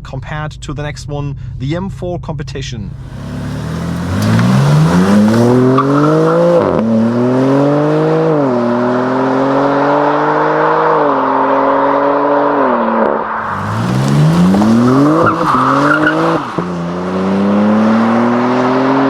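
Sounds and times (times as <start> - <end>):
car engine accelerating hard: 2.9 - 19.0.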